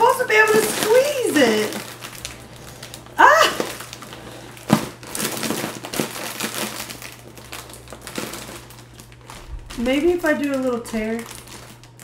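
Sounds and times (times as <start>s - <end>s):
foil balloon crinkling: 0.0s - 12.0s.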